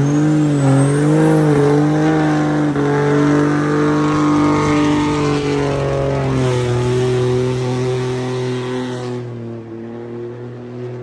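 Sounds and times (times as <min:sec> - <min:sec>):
high engine whistle: 0:00.0 - 0:09.3
diesel truck engine revving high: 0:00.0 - 0:10.6.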